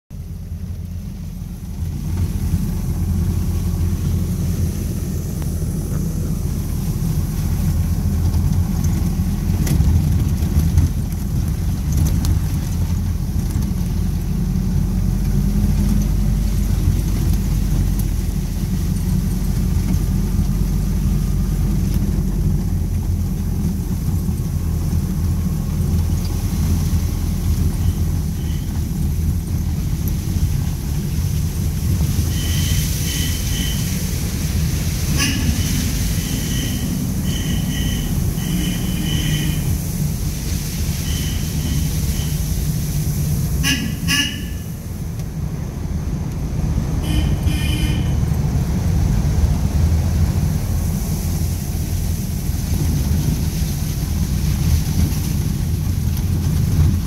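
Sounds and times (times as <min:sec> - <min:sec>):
car engine rumble: 0:00.0 - 0:57.0
tyres on gravel road: 0:00.1 - 0:57.0.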